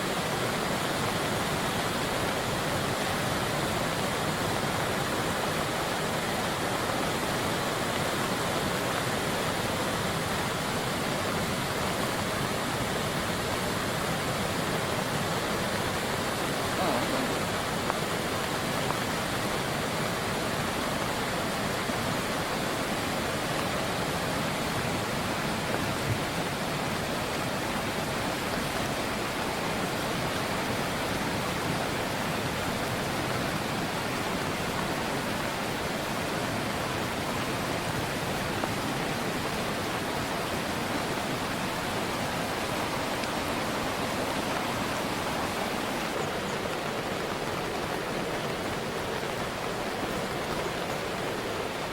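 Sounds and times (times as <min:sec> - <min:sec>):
rushing river water: 0:00.0 - 0:51.9.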